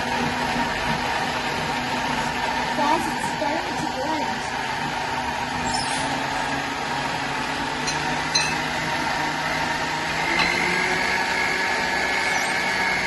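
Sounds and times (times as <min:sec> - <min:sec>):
blender motor running: 0:00.0 - 0:13.0.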